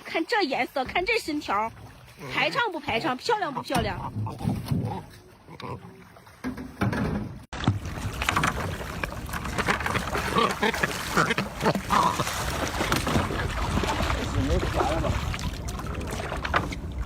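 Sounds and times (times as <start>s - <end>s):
water splashes: 0.0s - 17.0s
wind: 0.0s - 17.0s.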